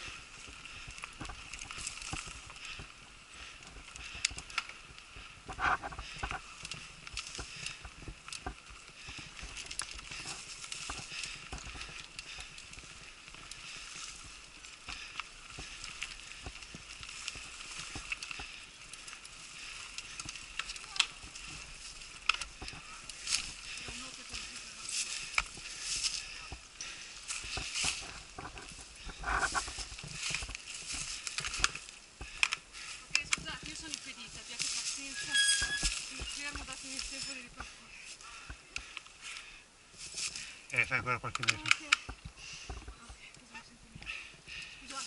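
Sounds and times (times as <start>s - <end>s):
bike rattling over dirt trail: 0.0s - 45.0s.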